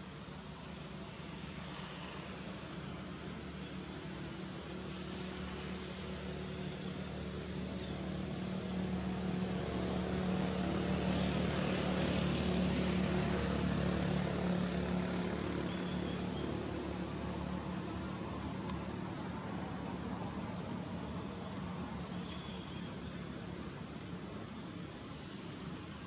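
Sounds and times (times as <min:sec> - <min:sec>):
engine drone with hiss: 0:00.0 - 0:26.0.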